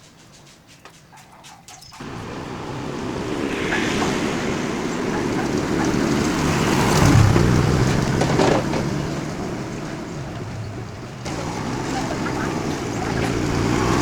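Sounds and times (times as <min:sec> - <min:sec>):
vehicle passing by: 0:02.0 - 0:14.0.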